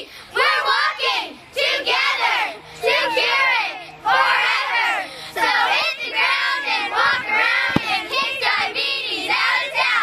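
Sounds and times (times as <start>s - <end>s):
girls shouting a cheer: 0.4s - 10.0s.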